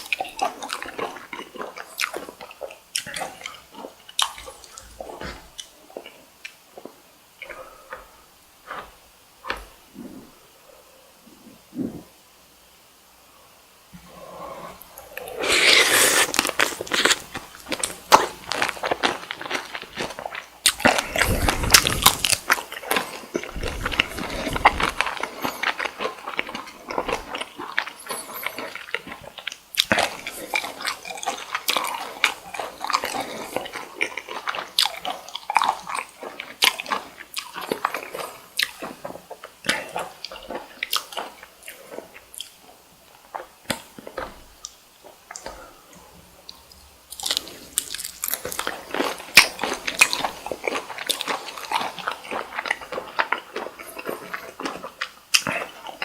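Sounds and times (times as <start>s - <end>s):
wet chewing and crunching: 0.0s - 9.7s, 14.9s - 56.0s.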